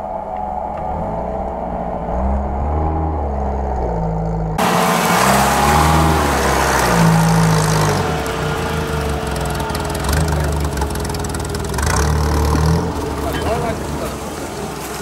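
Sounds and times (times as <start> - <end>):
engine revving under load: 0.5 - 15.0.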